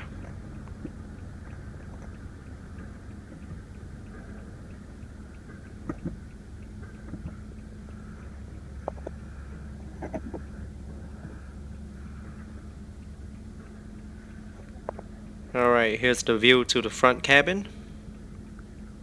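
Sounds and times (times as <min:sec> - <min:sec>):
low hum inside car cabin: 0:00.0 - 0:19.0.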